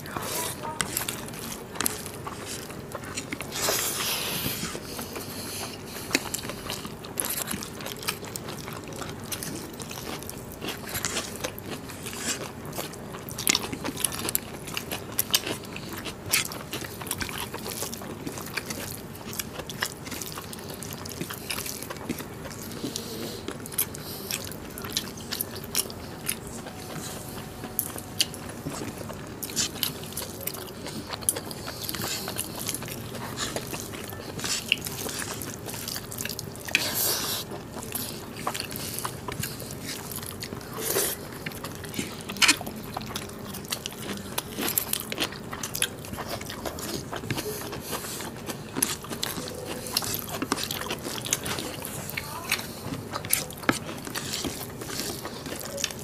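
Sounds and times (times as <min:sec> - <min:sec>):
wet chewing and lip-smacking: 0:00.0 - 0:56.0.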